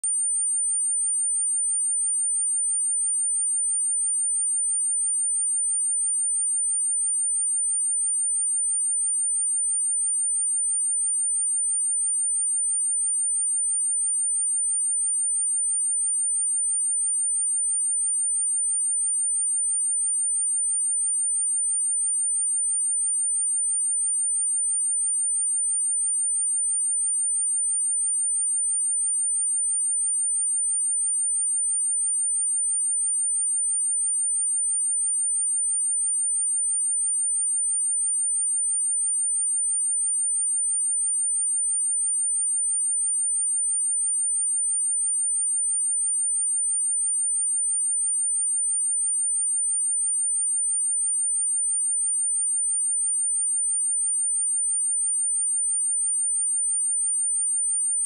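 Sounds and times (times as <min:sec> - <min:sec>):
high-pitched sine-wave test tone: 0:00.0 - 0:58.0.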